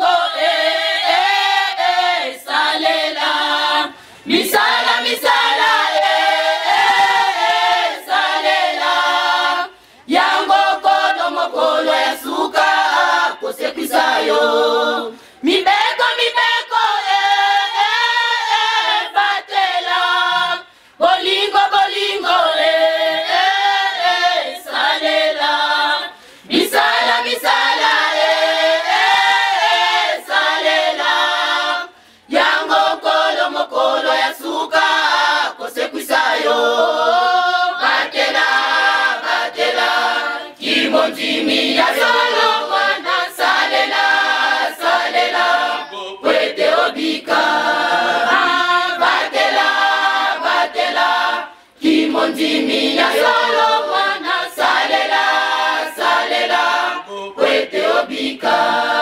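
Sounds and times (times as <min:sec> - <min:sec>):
choir singing unaccompanied: 0:00.0 - 0:59.0.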